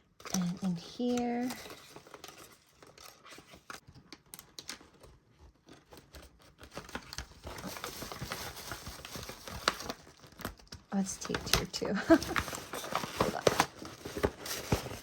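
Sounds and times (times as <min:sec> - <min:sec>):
paper wrapping crinkling: 0:00.1 - 0:15.0.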